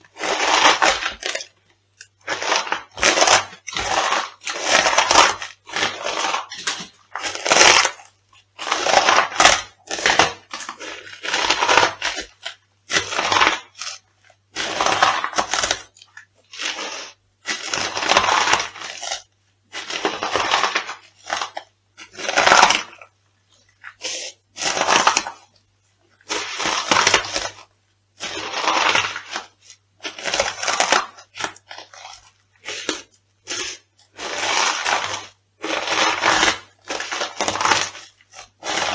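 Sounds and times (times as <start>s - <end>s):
crisp food crushed underfoot: 0.1s - 14.0s, 14.6s - 19.2s, 19.8s - 23.1s, 28.2s - 38.9s.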